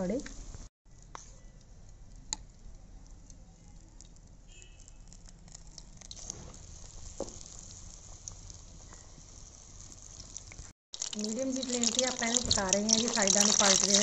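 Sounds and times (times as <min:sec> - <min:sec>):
deep-frying in hot oil: 0:00.0 - 0:00.7, 0:01.7 - 0:14.0.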